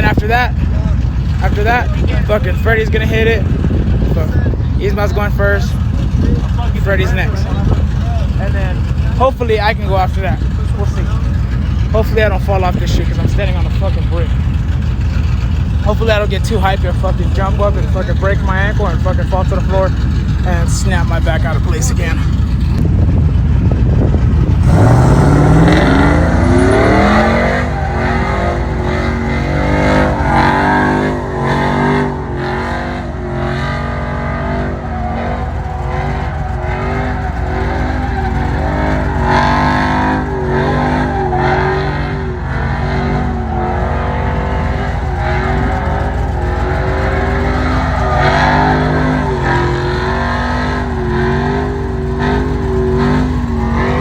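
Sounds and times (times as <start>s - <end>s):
pickup truck engine revving hard: 0.0s - 54.0s
tyres spinning: 0.0s - 54.0s.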